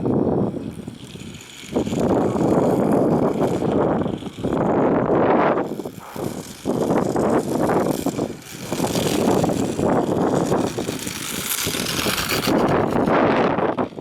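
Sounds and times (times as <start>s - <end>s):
rolling rumble of wheels: 0.0s - 14.0s
wind buffeting microphone: 0.0s - 14.0s.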